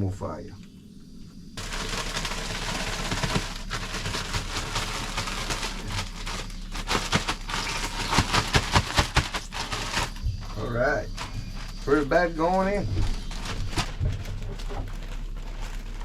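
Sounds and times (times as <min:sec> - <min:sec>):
oil crackling: 0:01.6 - 0:16.0.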